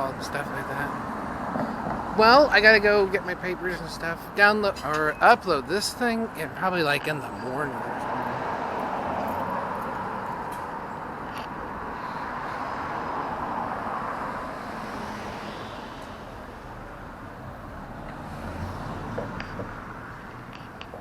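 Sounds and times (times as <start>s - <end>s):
passing road traffic: 0.0s - 21.0s.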